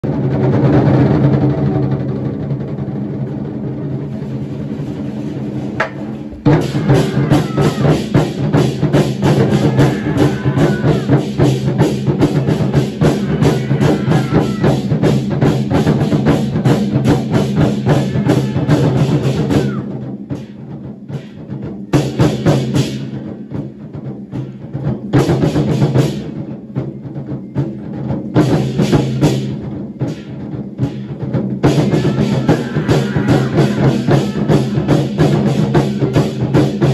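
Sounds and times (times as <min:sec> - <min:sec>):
large barrel drums in unison: 0:00.0 - 0:36.9.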